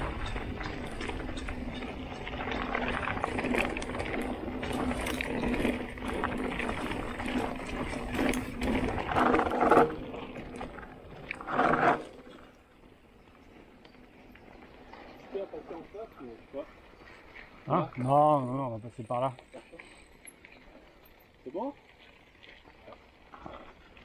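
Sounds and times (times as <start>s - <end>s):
bike rattling and clicking: 0.0s - 24.0s
bike tyres rolling over dirt: 0.0s - 24.0s.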